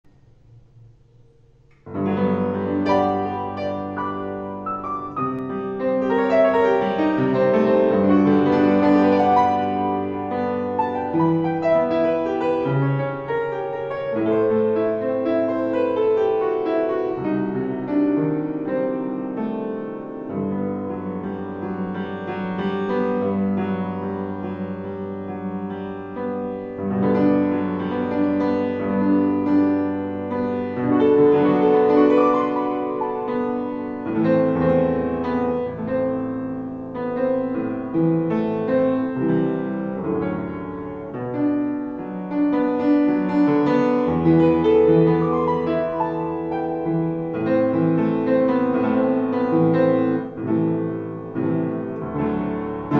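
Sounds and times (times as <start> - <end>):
piano playing: 0.0 - 52.9.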